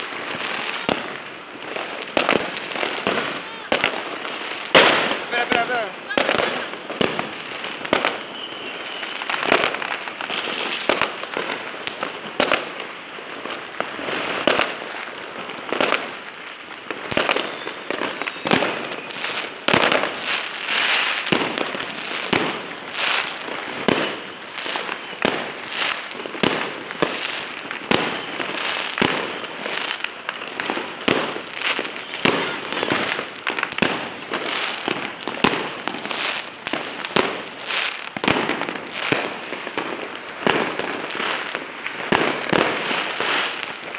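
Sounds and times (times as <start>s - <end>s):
firecrackers crackling: 0.0s - 43.9s
fireworks bangs: 0.0s - 43.9s.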